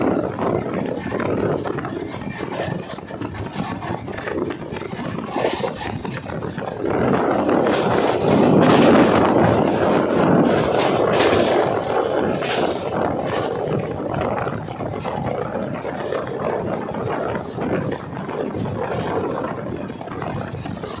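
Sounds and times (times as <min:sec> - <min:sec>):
rushing wind: 0:00.0 - 0:21.0
train wheels on rails: 0:00.0 - 0:21.0.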